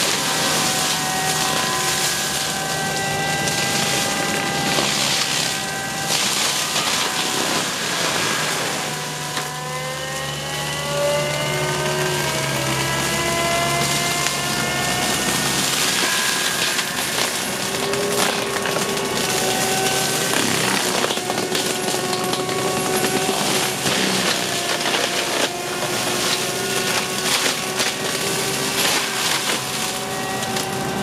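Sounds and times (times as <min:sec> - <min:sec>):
mulcher engine running: 0:00.0 - 0:31.0
wood being ground up: 0:00.0 - 0:31.0.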